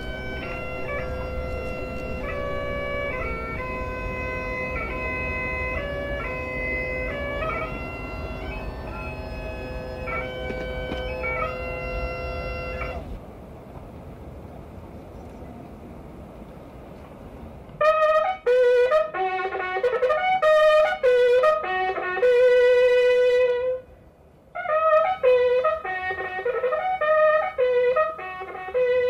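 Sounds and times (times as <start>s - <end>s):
bagpipes playing a tune: 0.0s - 13.2s, 17.9s - 23.8s, 24.6s - 29.0s.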